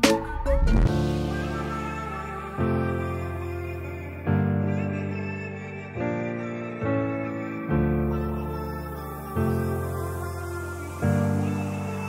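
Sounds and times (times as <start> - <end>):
soft music of sustained chords: 0.0 - 12.0.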